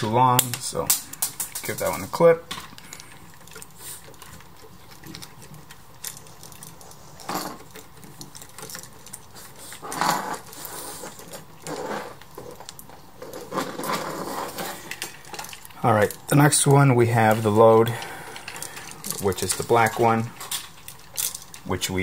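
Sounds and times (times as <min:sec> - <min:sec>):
handling noise: 0:00.0 - 0:22.0.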